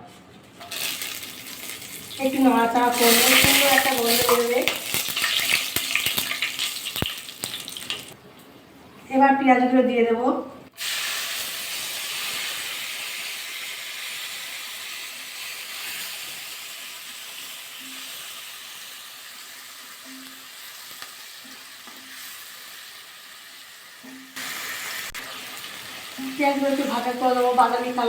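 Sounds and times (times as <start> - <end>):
onions sizzling in hot oil: 0.6 - 8.2, 10.8 - 28.0.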